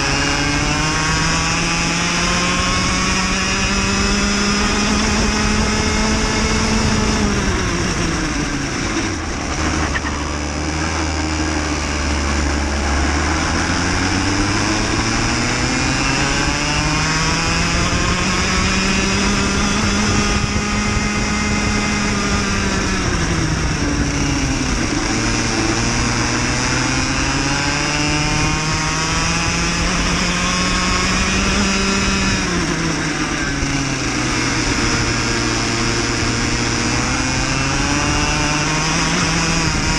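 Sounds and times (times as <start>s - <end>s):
racing kart engine revving: 0.0s - 39.9s.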